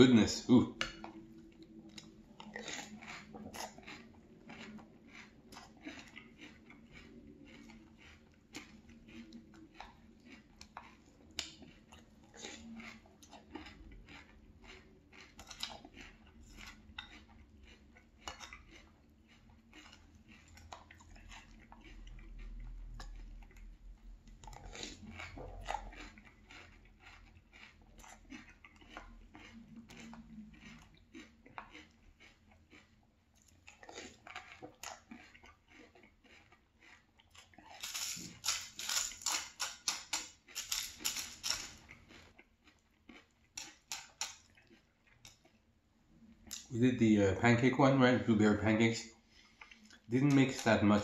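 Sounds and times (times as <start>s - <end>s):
person crunching cereal: 1.4s - 23.7s, 24.4s - 45.6s, 49.2s - 51.0s.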